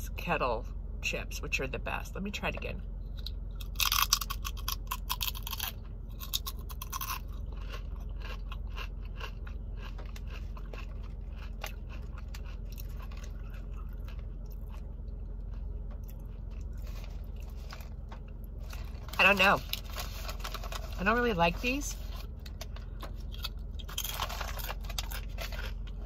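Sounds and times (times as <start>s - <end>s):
crunching potato chip: 3.2s - 21.4s, 22.2s - 26.0s.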